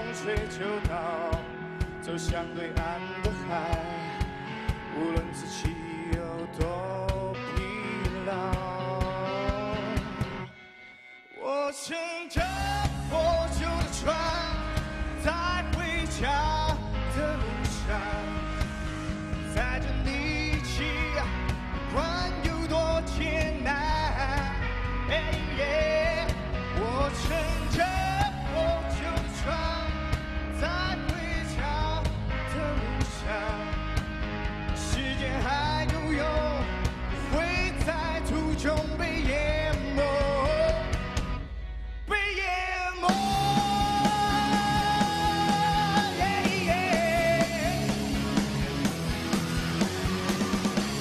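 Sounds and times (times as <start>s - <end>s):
man singing: 0.0s - 10.5s, 11.3s - 34.0s, 34.7s - 41.3s, 42.0s - 48.1s
rock band playing: 0.0s - 51.0s.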